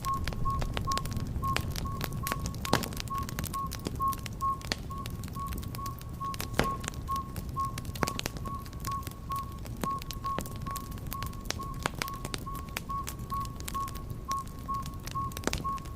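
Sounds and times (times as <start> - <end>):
short beeps: 0.0 - 15.9
wood fire crackling and popping: 0.0 - 15.9.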